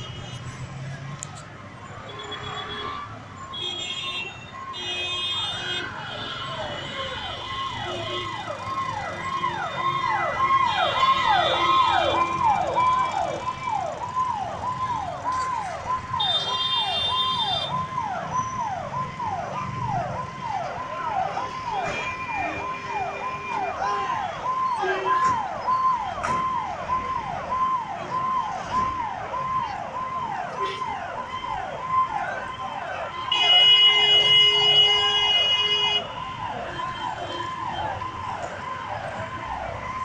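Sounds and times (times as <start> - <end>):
fire engine siren whooping: 4.2 - 40.0.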